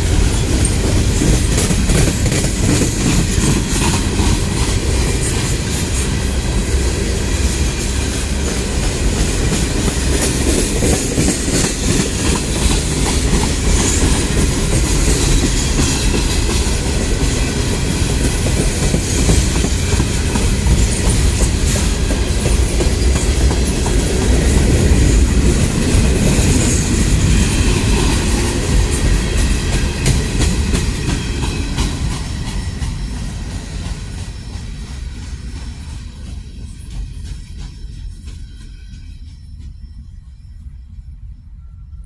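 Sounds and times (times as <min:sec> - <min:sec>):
train wheels clattering over rail joints: 0:00.0 - 0:39.3
heavy rumble of train: 0:00.0 - 0:42.0.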